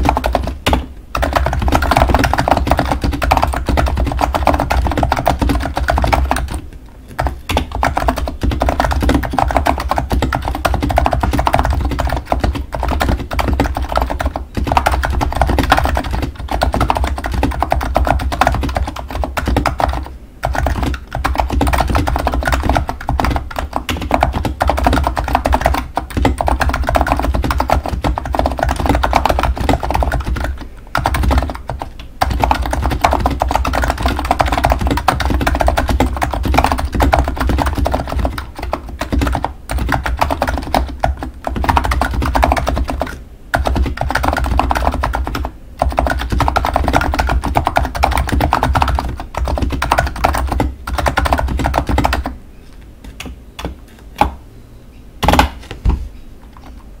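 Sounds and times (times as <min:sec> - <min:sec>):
fast typing on mechanical keyboard: 0:00.0 - 0:52.4.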